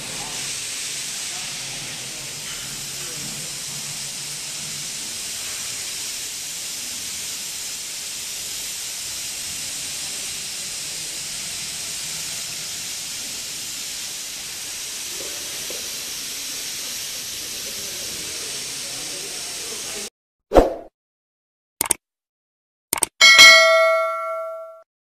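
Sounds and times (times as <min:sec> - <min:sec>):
steady high hiss: 0:00.0 - 0:20.1.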